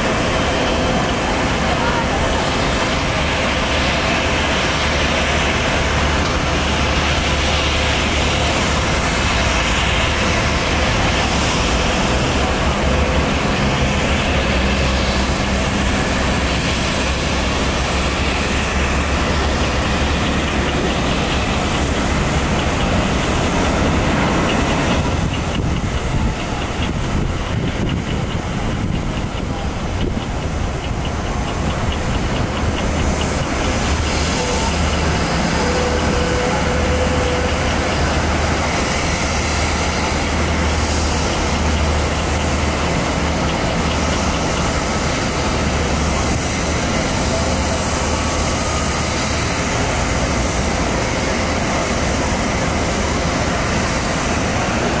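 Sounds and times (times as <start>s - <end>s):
distant jet engines rushing: 0.0s - 55.0s.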